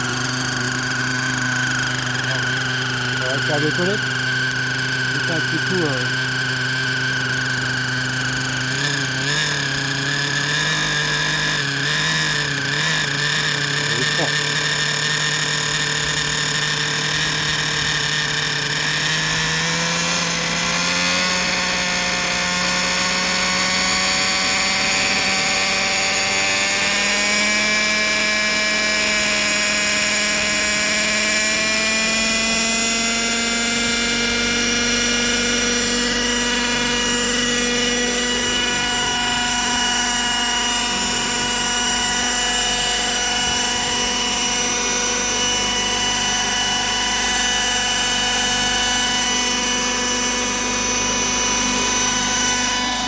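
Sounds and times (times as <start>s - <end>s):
model helicopter engine and rotor whine: 0.0s - 53.0s.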